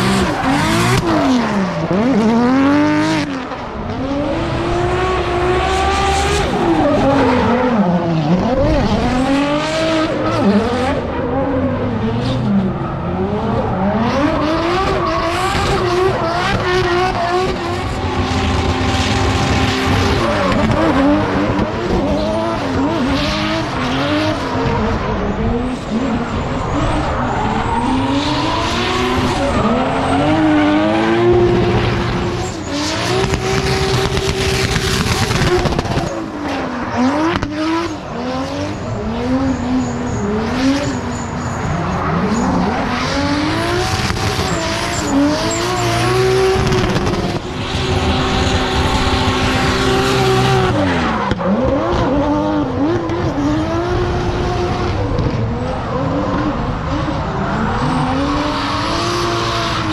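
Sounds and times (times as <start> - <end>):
tyres squealing and skidding: 0.0 - 4.3, 5.4 - 59.9
car engine revving hard: 0.0 - 59.9.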